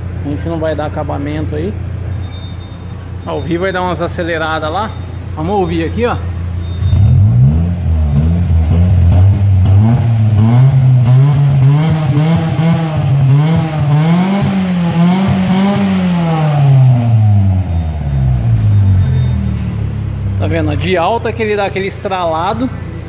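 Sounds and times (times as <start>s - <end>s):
exhaust crackle: 0.0s - 23.0s
car engine revving: 3.8s - 23.0s.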